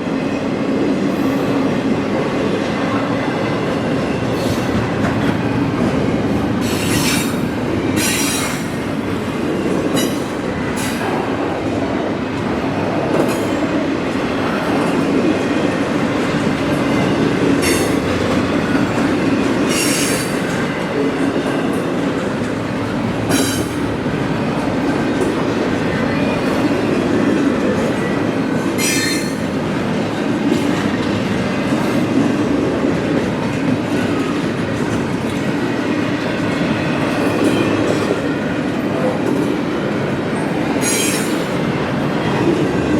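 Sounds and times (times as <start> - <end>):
steel wheels rumbling on rail: 0.0 - 42.9.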